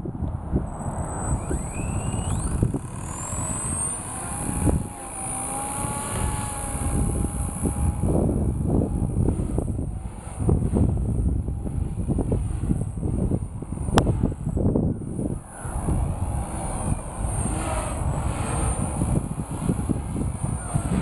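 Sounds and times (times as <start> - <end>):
wind on microphone: 0.0 - 21.0
rc helicopter motor whine: 0.4 - 21.0.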